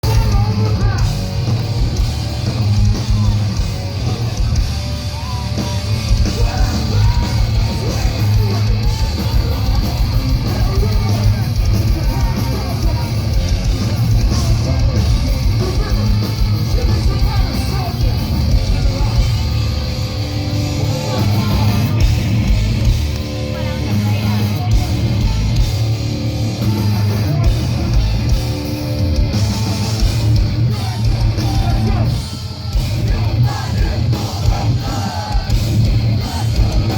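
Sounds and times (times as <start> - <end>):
pounding drums: 0.0 - 23.4, 24.0 - 36.9
distorted guitars: 0.0 - 36.9
yelled vocals: 0.0 - 36.9.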